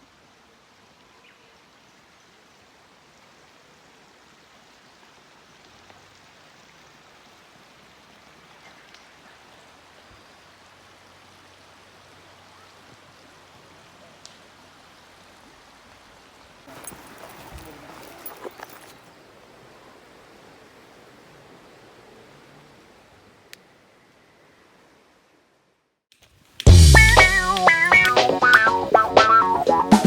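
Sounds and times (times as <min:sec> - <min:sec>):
faint stream flowing: 0:00.0 - 0:29.9.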